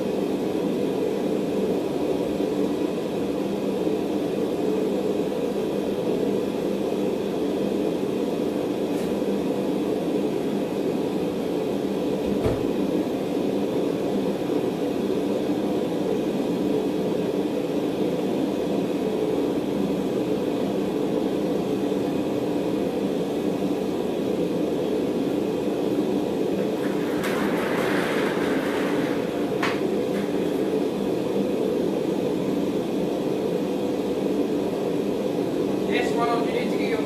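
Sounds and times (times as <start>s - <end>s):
forge burner rushing: 0.0s - 37.0s.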